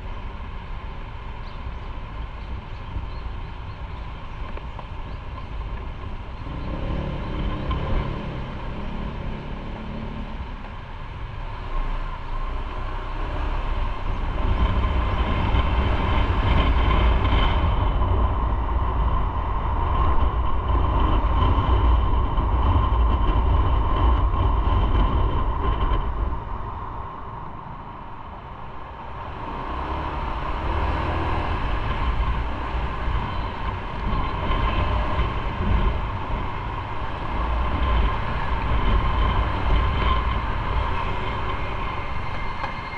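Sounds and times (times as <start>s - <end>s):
heavy wind rumble: 0.0s - 42.9s
road noise: 0.0s - 42.9s
motorcycle engine: 4.1s - 26.7s, 27.6s - 42.9s.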